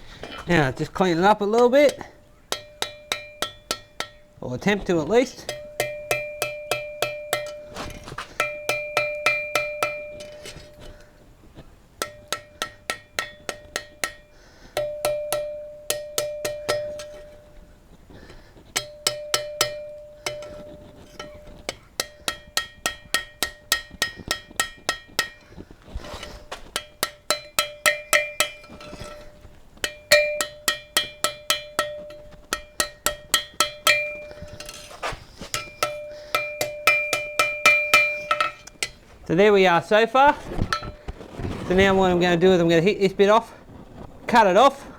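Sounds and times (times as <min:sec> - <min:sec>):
anvil ringing: 0:00.5 - 0:11.2, 0:12.0 - 0:39.9
hammer striking steel on anvil: 0:01.2 - 0:39.4.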